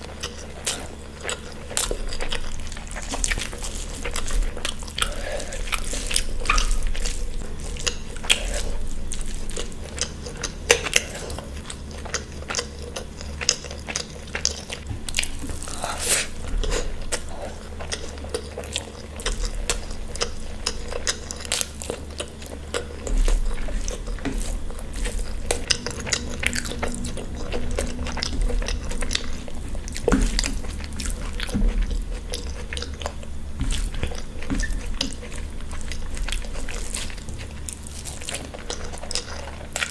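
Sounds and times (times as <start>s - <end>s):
chewing and biting food: 0.0s - 39.9s
low steady hum: 0.0s - 39.9s.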